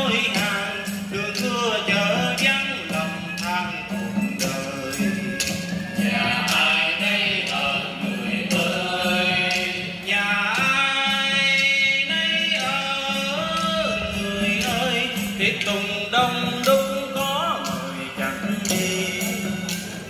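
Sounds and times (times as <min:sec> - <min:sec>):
traditional string instruments: 0:00.0 - 0:20.0
voices singing: 0:00.0 - 0:20.0.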